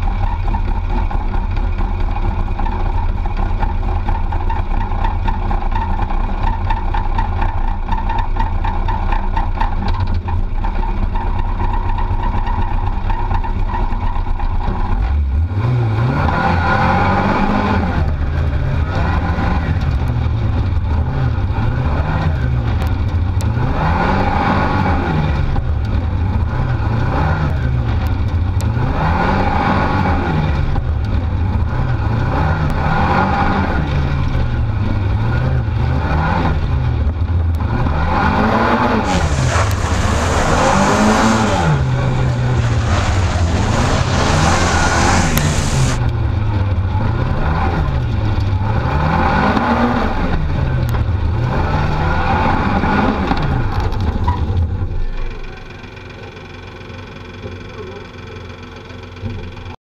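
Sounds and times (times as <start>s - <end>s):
car engine idling and revving: 0.0s - 59.8s.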